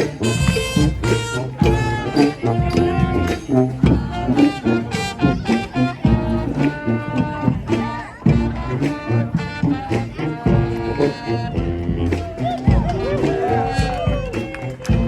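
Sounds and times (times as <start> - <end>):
brass and saxophones playing: 0.0 - 15.0
drum beat: 0.0 - 15.0.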